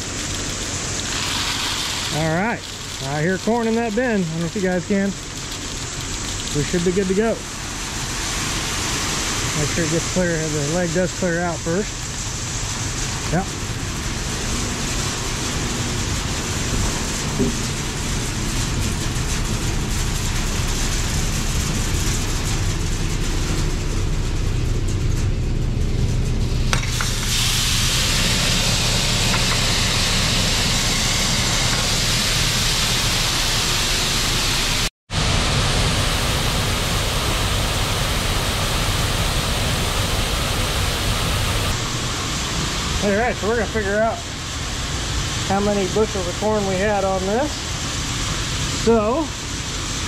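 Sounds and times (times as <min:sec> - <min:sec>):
corn rushing through conveyor: 0:00.0 - 0:50.0
low mechanical hum: 0:00.0 - 0:50.0.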